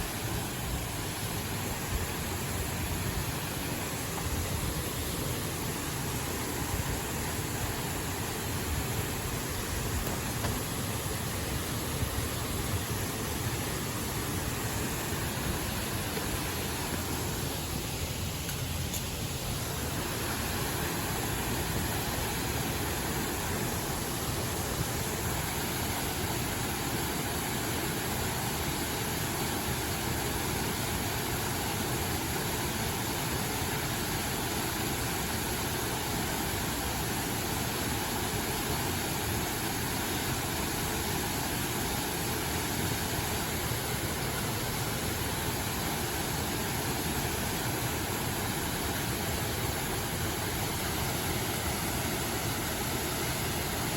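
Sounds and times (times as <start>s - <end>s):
mountain stream rushing: 0.0s - 53.9s.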